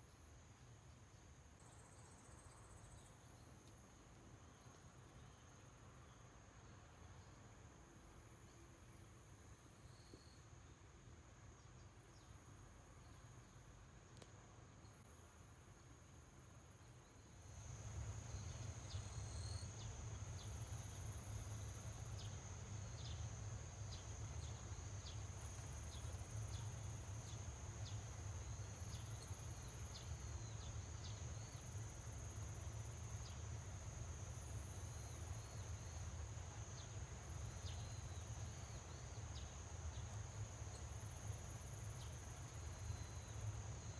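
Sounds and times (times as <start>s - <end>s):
insects trilling and buzzing: 0.0s - 43.9s.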